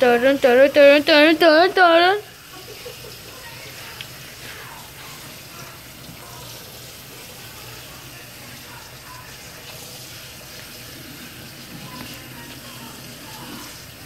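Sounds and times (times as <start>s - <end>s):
faucet running into metal sink: 0.0s - 14.0s.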